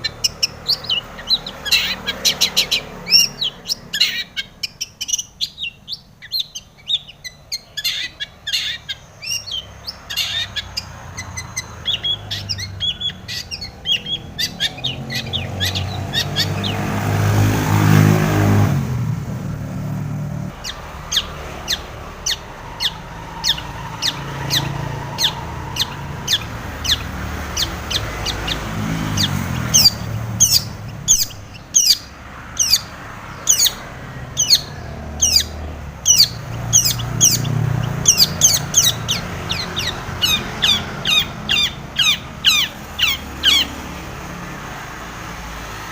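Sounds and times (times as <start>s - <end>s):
bird singing sharp chirps: 0.0s - 18.8s, 20.5s - 44.0s.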